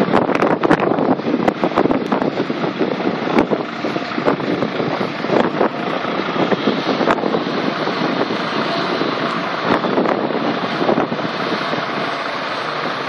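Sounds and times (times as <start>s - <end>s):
excavator engine running: 0.0s - 13.0s
wind buffeting microphone: 0.0s - 13.0s.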